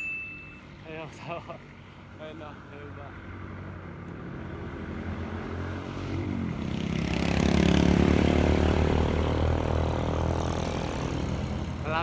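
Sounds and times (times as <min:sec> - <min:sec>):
vehicle engine on road: 0:00.5 - 0:12.0.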